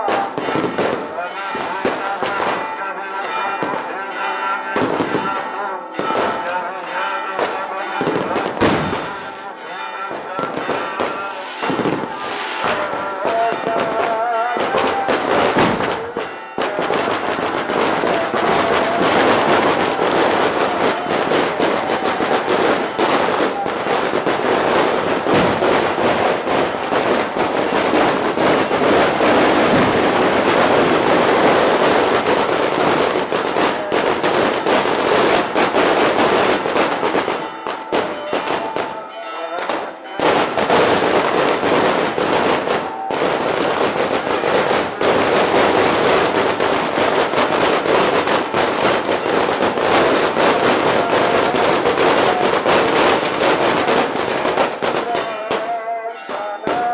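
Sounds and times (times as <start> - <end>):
firecrackers crackling: 0.0 - 56.9.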